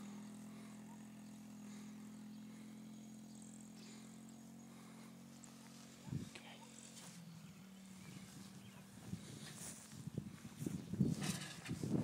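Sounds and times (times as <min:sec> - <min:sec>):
faint engine hum: 0:00.0 - 0:12.0.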